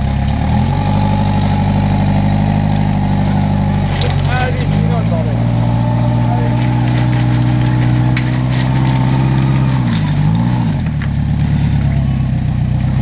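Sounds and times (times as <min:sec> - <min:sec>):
engine running hard: 0:00.0 - 0:13.0.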